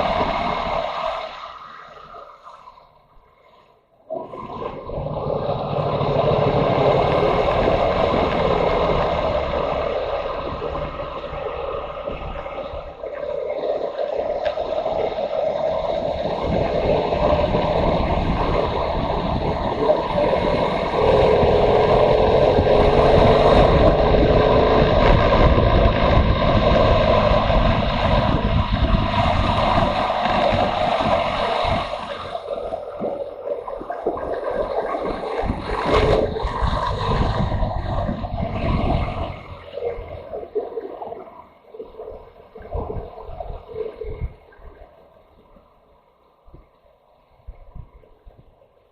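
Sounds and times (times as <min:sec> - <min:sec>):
wind rushing over microphone: 0:00.0 - 0:02.4, 0:04.1 - 0:44.9.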